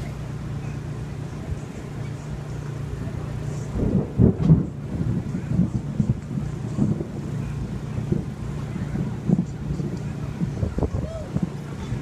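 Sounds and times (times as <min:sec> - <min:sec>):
low mechanical drone: 0:00.0 - 0:12.0
wind buffeting microphone: 0:01.0 - 0:12.0.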